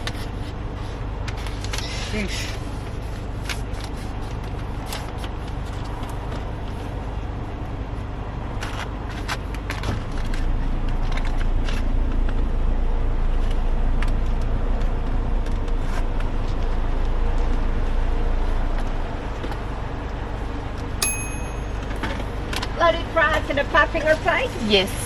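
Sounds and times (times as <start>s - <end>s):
car engine rumble from inside: 0.0s - 21.0s.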